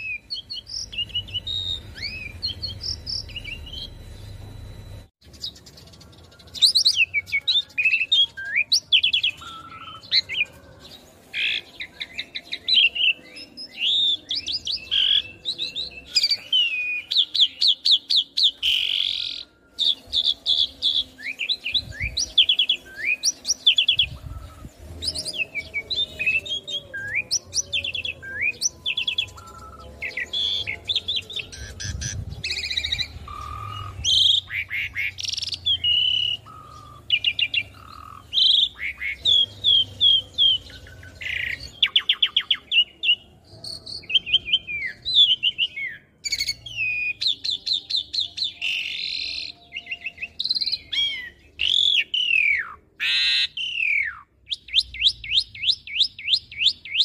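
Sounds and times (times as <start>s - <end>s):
starling singing: 0.0s - 4.5s, 5.2s - 57.0s.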